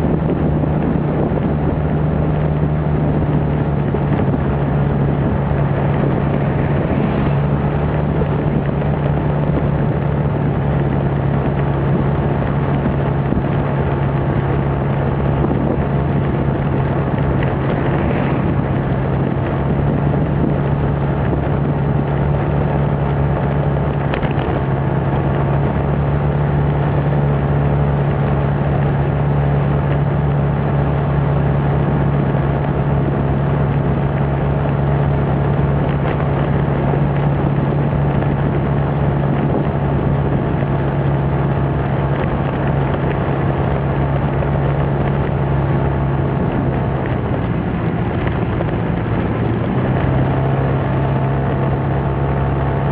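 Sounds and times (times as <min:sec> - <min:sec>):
motorbike engine running: 0:00.0 - 0:52.9
rushing wind noise: 0:00.0 - 0:52.9.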